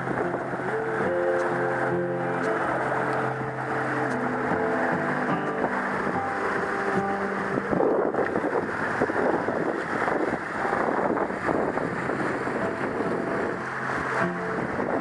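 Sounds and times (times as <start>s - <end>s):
water rushing along a hull: 0.0s - 15.0s
wind buffeting microphone: 0.0s - 15.0s.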